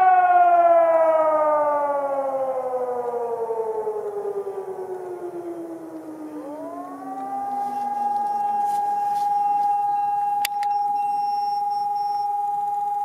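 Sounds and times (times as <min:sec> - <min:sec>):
alarm siren steady tone: 0:00.0 - 0:13.0
lower siren winding down: 0:00.0 - 0:13.0.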